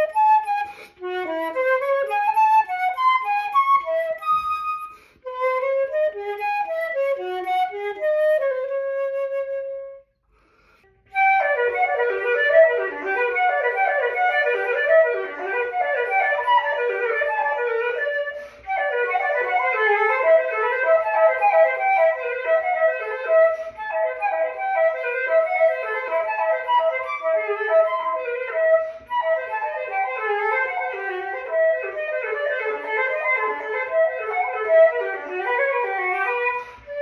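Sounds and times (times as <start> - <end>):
solo flute melody: 0.0 - 37.0.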